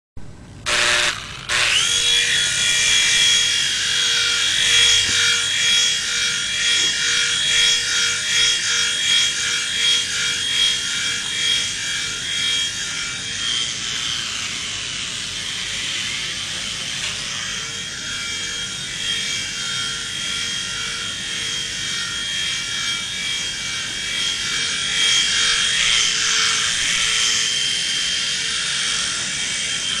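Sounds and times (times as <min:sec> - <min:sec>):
toy helicopter rotor motor whine: 0:00.6 - 0:30.0.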